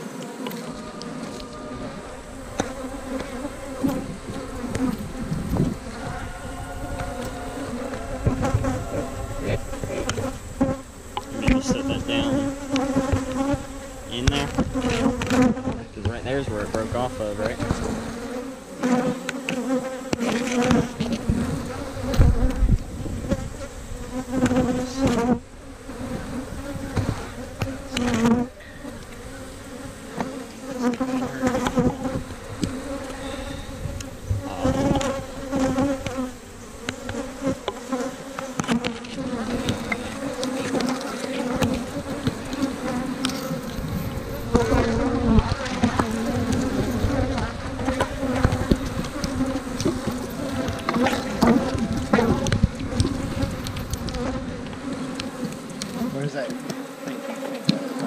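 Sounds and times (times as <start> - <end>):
bees buzzing: 0.0 - 58.0.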